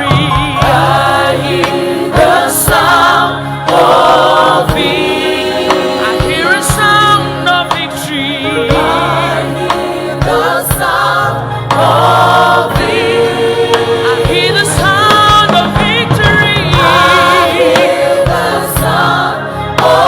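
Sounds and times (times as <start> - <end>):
gospel choir singing: 0.0 - 20.0
sustained low instrumental notes: 0.0 - 20.0.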